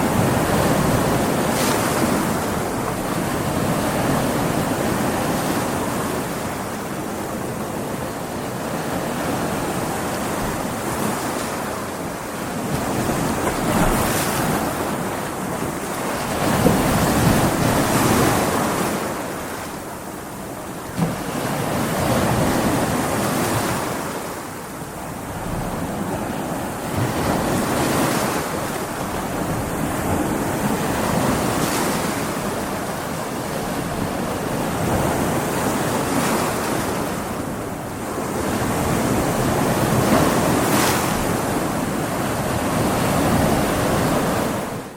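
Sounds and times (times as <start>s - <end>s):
waves breaking and surging: 0.0s - 44.9s
wind: 0.0s - 44.9s.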